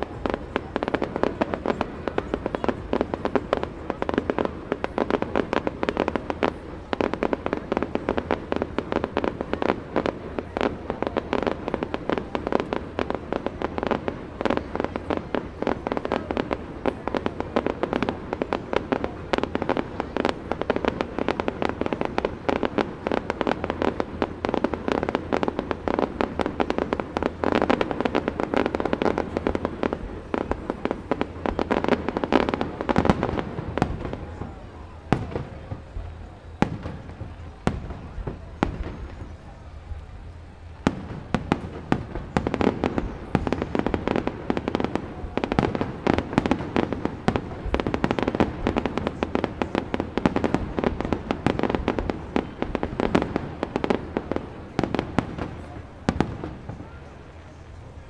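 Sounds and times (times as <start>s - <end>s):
loud firework bangs: 0.0s - 57.7s
fireworks bursts and crackles: 0.0s - 58.0s.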